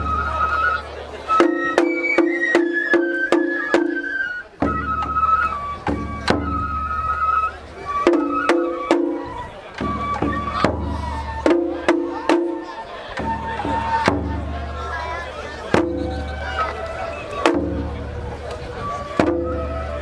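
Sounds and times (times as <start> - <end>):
bamboo flute melody: 0.0 - 20.0.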